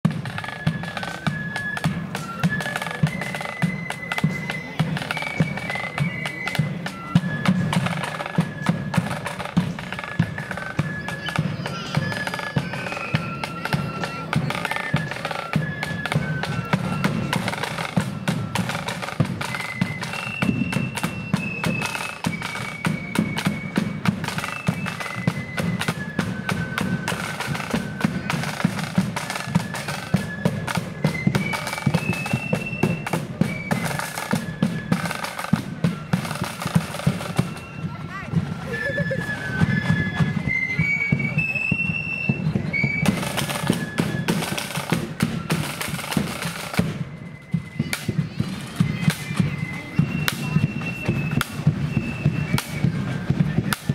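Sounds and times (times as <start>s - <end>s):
high flute melody: 0.1s - 53.9s.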